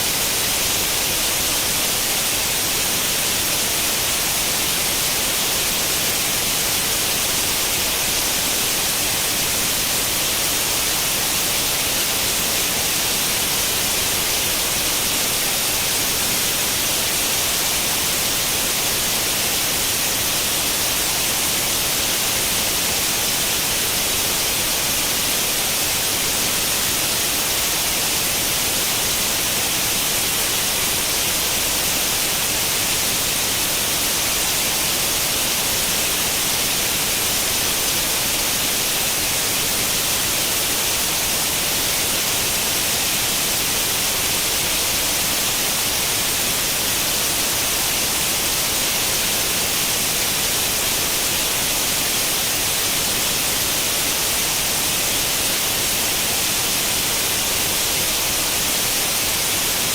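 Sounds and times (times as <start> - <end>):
white noise static hiss: 0.0 - 59.9.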